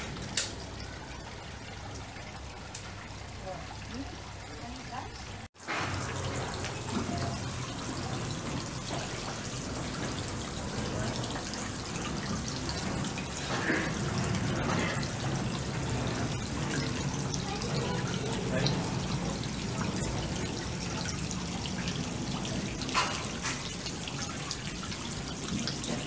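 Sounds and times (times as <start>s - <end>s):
fountain splashing and trickling: 0.0s - 26.0s.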